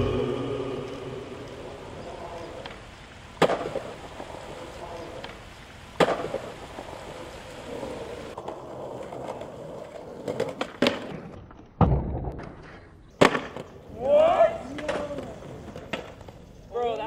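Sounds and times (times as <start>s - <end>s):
skateboard wheels rolling on concrete: 2.0s - 17.0s.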